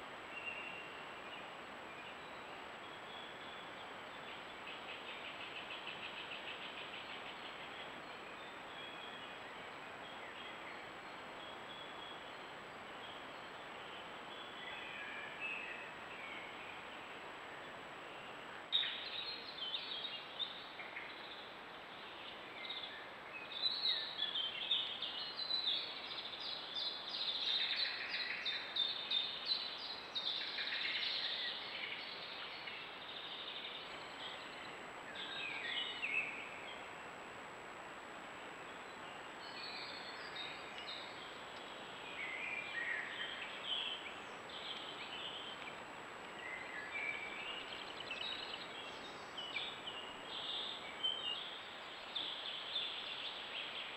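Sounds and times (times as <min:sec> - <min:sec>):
background hiss: 0:00.0 - 0:53.9
songbirds chirping and trilling: 0:00.0 - 0:53.9.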